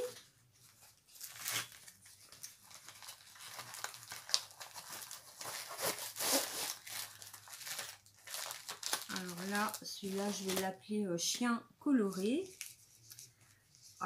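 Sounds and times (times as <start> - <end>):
packaging rustling and crinkling: 0.0 - 10.8, 12.1 - 14.0.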